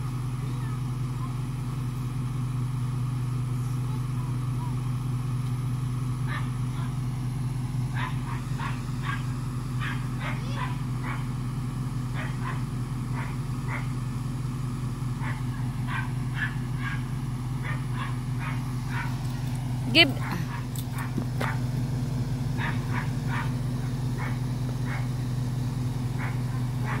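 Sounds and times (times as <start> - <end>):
truck engine humming: 0.0 - 27.0.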